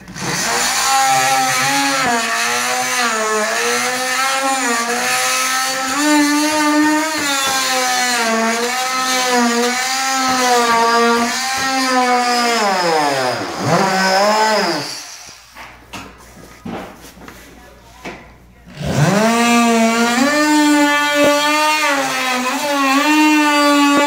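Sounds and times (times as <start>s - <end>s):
power tool cutting drywall: 0.0s - 16.8s, 18.7s - 24.0s.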